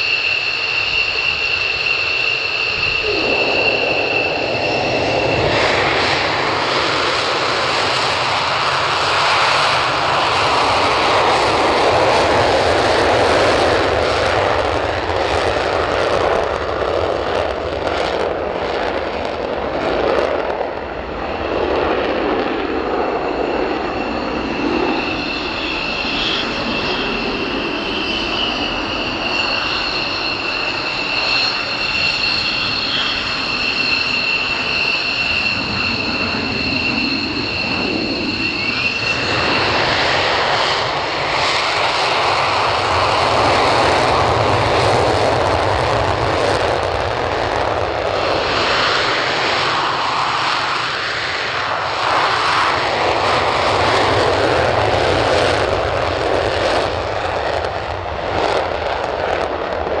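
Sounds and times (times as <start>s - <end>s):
jet afterburner takeoff roar: 0.0s - 60.0s
taxiing jet whine: 0.0s - 60.0s.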